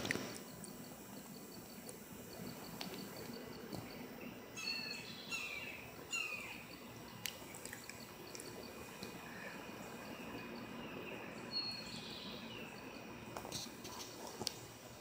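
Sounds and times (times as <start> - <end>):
evening insect chorus: 0.0 - 15.0
bird chirping: 0.2 - 14.2.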